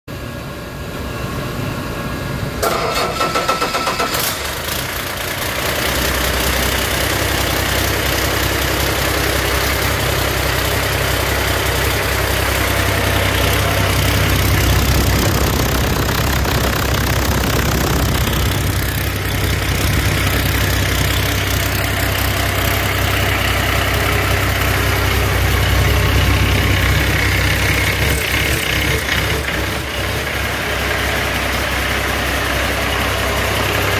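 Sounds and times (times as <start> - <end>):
diesel engine cranking and idling: 2.0 - 33.9.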